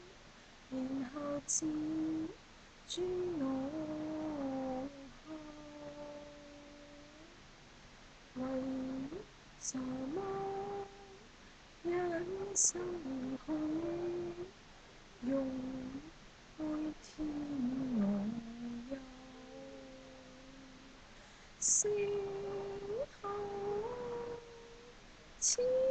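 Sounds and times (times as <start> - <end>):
woman singing slow song: 0.7 - 7.4, 8.3 - 14.6, 15.2 - 21.0, 21.6 - 25.9.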